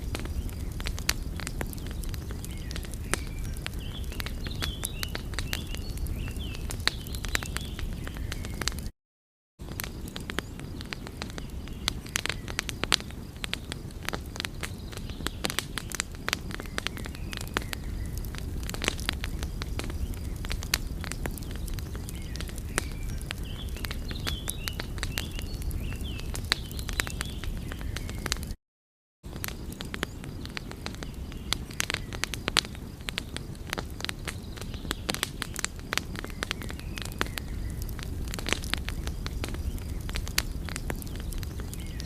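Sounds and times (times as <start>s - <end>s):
low rumble of fire: 0.0s - 8.9s, 9.6s - 28.6s, 29.3s - 42.0s
wood fire crackling: 0.0s - 8.9s, 9.6s - 28.6s, 29.3s - 42.0s.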